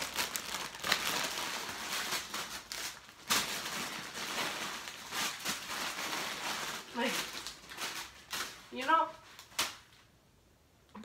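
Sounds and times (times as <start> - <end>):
plastic bag crinkling: 0.0 - 10.1
wrapped candies rustling: 0.0 - 10.1.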